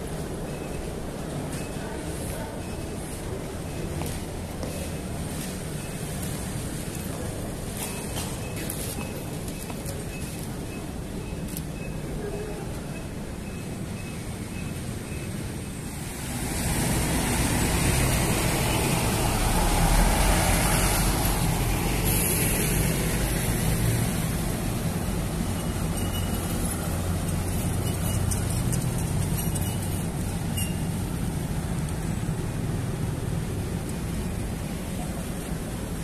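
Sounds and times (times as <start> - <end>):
road traffic passing: 0.0 - 36.0.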